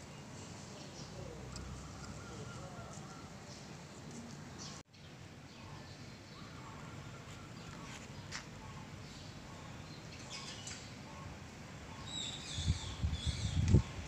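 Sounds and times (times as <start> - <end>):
low outdoor hum: 0.0 - 14.0
small birds chirping: 0.0 - 14.0.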